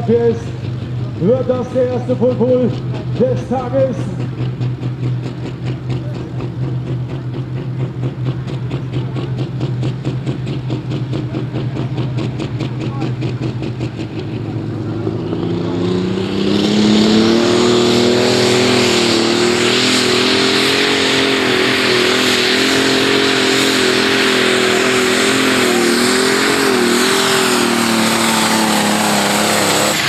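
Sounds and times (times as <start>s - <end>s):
diesel engine at full power: 0.0s - 30.0s.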